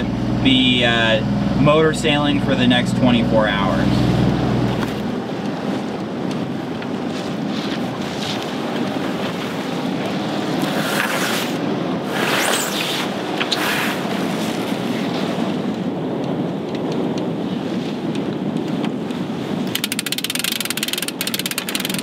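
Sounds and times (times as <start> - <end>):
sea rushing past hull: 0.0 - 22.0
wind on microphone: 0.0 - 22.0
sail cloth flapping: 4.0 - 22.0.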